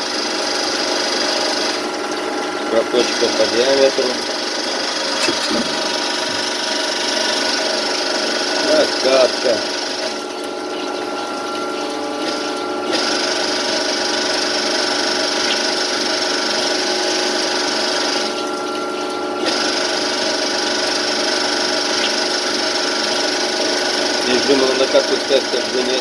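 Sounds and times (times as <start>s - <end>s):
lathe machine tones: 0.0s - 18.7s, 19.4s - 26.0s.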